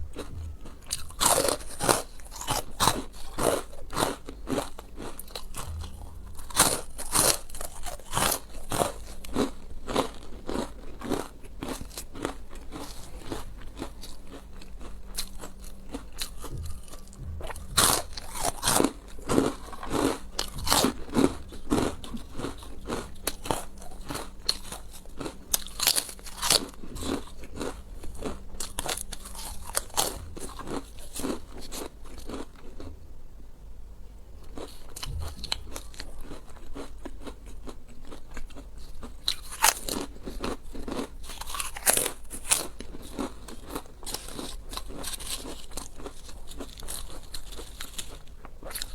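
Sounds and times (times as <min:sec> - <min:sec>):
person chewing crunchy food: 0:00.0 - 0:33.0, 0:34.4 - 0:48.9.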